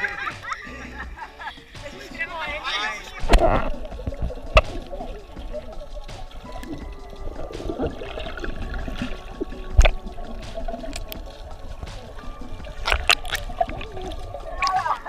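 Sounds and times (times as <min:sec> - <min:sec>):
water sloshing and bubbling: 0:00.0 - 0:00.6, 0:01.2 - 0:15.0.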